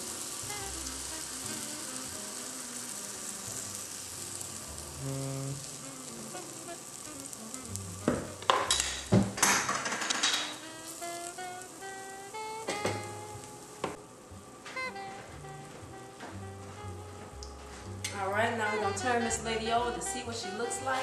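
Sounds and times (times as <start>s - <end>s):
grease sizzling in a skillet: 0.0s - 21.0s.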